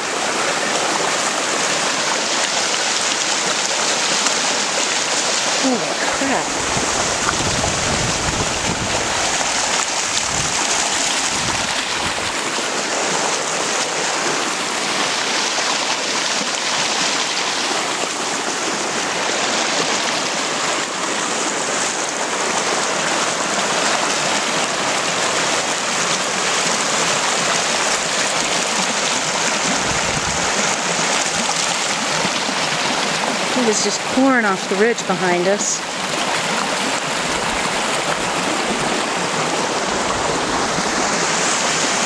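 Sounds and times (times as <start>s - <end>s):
flood water rushing: 0.0s - 42.0s.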